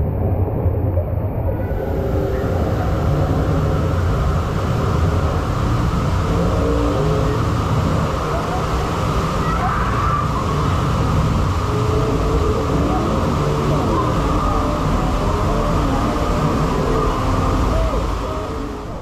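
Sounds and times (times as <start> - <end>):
water rushing down a drain: 0.2 - 19.0.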